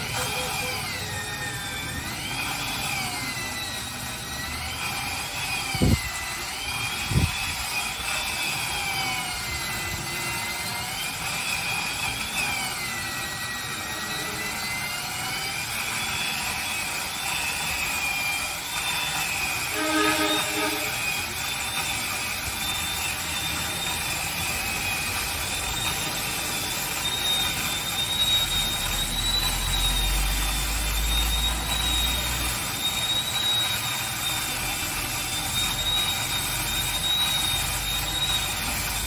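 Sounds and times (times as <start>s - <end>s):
wood chipper whining: 0.0s - 39.0s.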